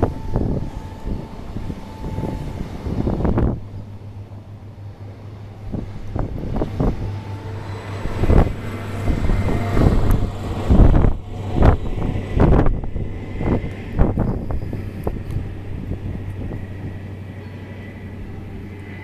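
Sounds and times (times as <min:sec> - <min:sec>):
diesel train passing: 0:00.0 - 0:19.0
wind buffeting microphone: 0:00.0 - 0:19.0.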